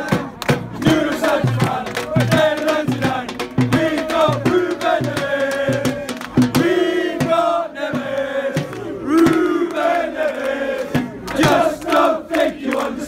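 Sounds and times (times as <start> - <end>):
crowd singing a chant: 0.0 - 13.0
rhythmic hand clapping: 0.0 - 13.0.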